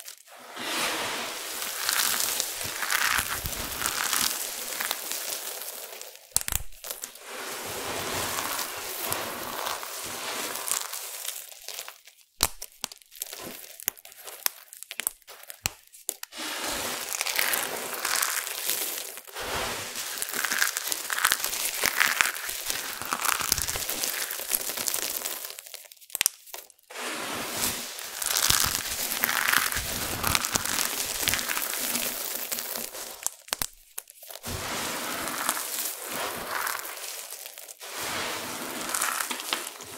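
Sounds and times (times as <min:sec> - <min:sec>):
dry clay crunching under hands: 0:01.5 - 0:07.2, 0:08.1 - 0:16.3, 0:16.9 - 0:26.9, 0:27.6 - 0:39.9.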